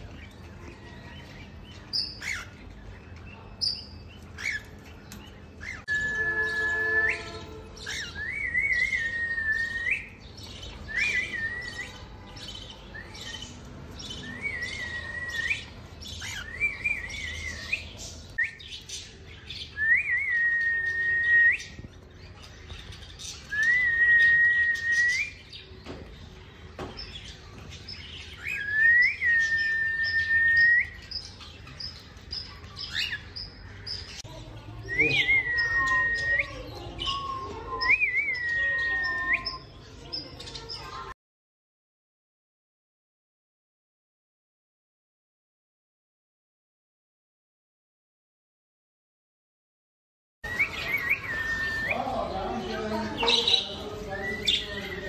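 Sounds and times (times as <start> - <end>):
high bird chirps: 0.0 - 41.2, 50.4 - 55.0.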